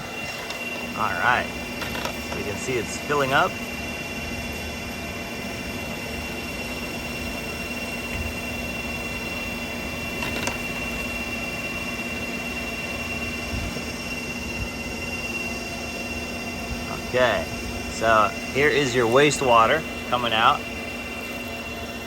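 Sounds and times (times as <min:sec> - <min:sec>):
cooling fans whirring: 0:00.0 - 0:22.0
high fan whine: 0:00.0 - 0:22.0
low hum: 0:00.0 - 0:22.0.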